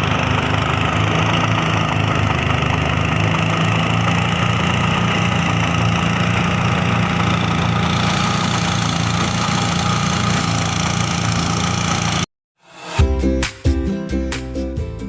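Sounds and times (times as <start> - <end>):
diesel engine running: 0.0 - 12.3.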